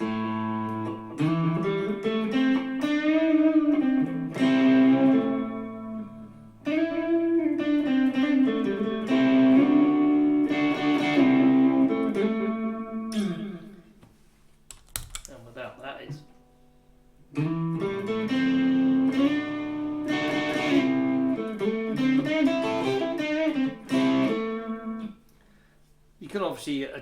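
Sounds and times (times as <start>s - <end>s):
overdriven electric guitar: 0.0s - 13.9s, 17.3s - 25.2s.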